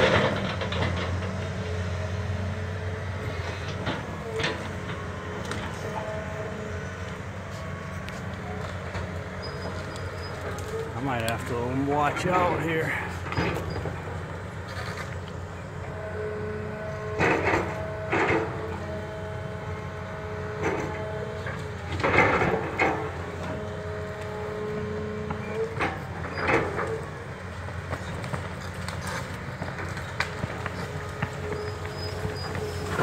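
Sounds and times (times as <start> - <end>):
excavator engine under load: 0.0 - 33.0
hydraulic whine: 0.0 - 33.0.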